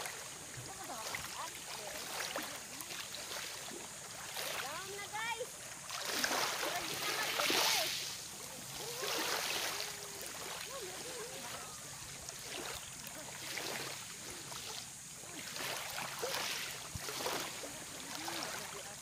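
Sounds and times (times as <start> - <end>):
small waves lapping on shore: 0.0 - 19.0.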